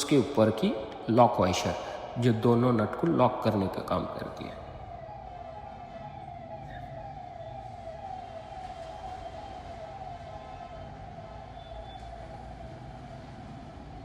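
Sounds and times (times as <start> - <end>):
siren with falling tone: 0.0 - 14.0.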